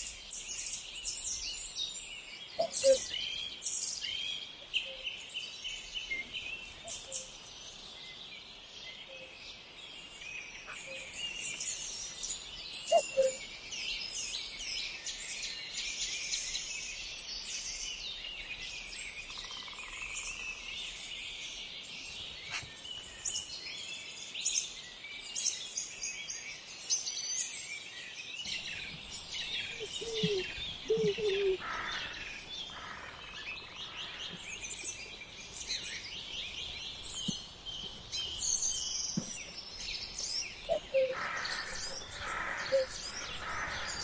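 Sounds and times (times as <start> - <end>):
small birds chirping in chorus: 0.0 - 44.0.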